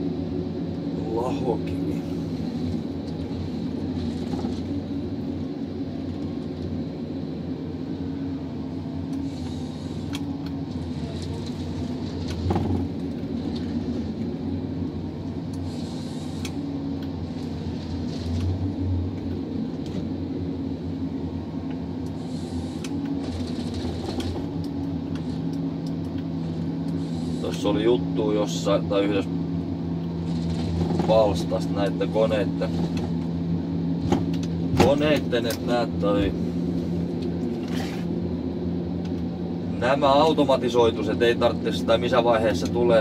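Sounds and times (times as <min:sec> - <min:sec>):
diesel engine humming: 0:00.0 - 0:43.0
hydraulics working: 0:00.8 - 0:06.7, 0:08.0 - 0:43.0.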